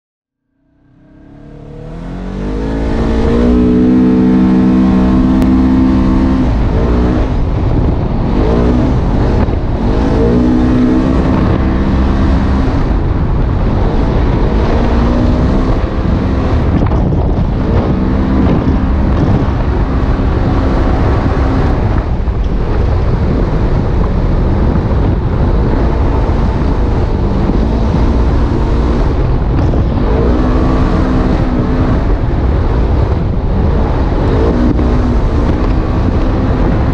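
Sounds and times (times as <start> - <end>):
engine running: 0.4 - 36.9
tyres rumbling on dirt: 1.3 - 36.9.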